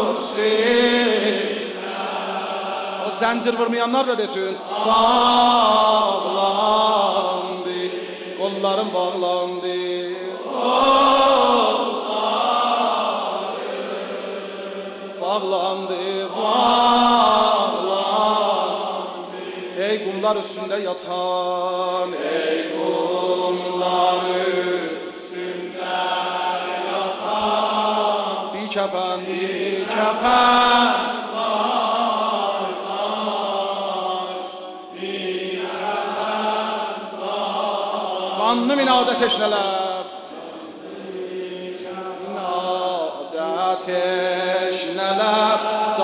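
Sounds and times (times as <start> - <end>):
group chanting: 0.0 - 46.0
man reciting: 0.0 - 46.0.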